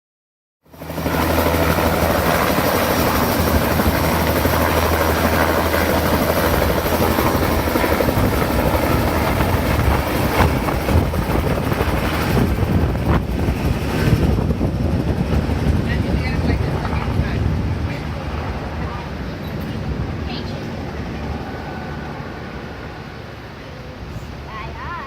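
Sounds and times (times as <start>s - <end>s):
helicopter rotor and engine: 0.7s - 25.0s.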